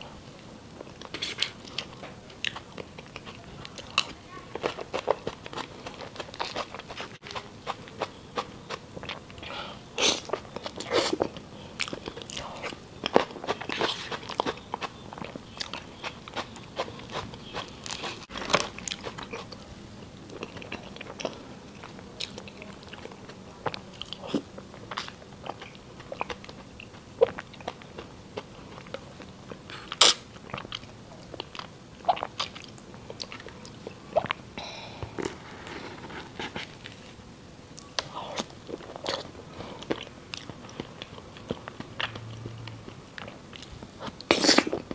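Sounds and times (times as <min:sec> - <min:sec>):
chewing and mouth sounds: 0:00.8 - 0:37.0, 0:37.7 - 0:44.9.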